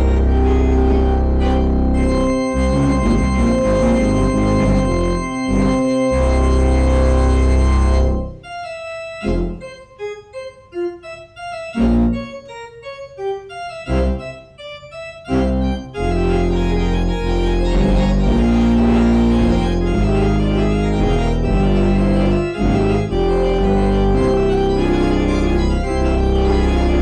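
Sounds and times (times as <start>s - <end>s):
organ music: 0.0s - 27.0s.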